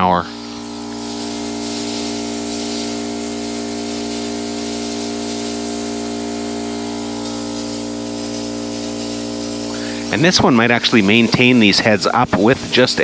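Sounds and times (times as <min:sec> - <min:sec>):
air compressor humming: 0:00.0 - 0:13.0
sprinkler heads hissing air: 0:00.0 - 0:13.0.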